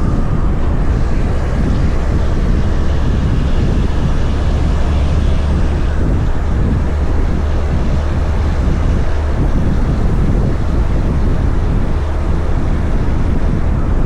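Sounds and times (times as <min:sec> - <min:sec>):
diesel truck engine rumbling: 0:00.0 - 0:14.0
road and wind noise: 0:00.0 - 0:14.0.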